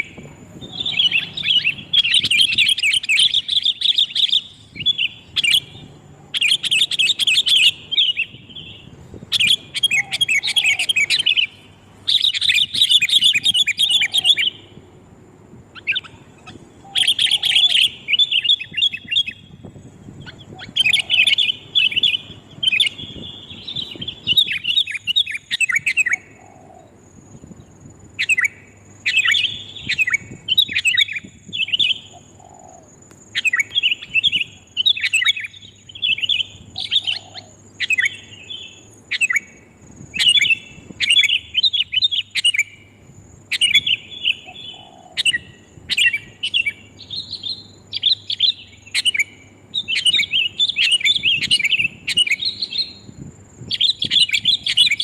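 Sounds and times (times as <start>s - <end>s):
bird chattering call: 0.0s - 14.8s, 15.8s - 27.0s, 28.2s - 39.6s, 43.5s - 53.0s.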